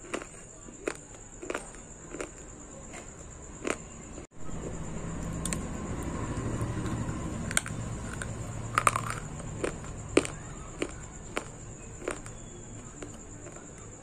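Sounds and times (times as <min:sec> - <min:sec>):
clay being chewed crunchily: 0:00.0 - 0:04.3, 0:06.6 - 0:14.0
steady background hum: 0:00.0 - 0:14.0.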